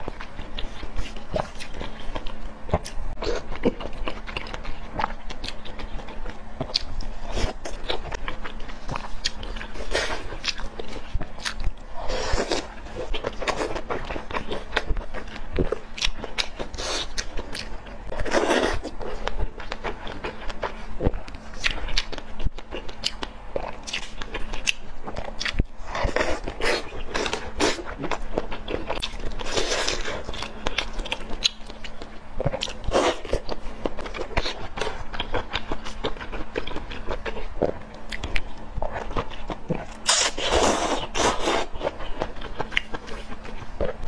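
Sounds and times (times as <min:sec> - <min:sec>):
chewing and biting: 0:00.0 - 0:44.0.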